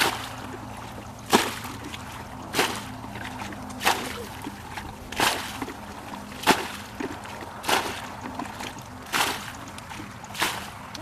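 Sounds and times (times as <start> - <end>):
water splashing from a bucket: 0.0 - 11.0.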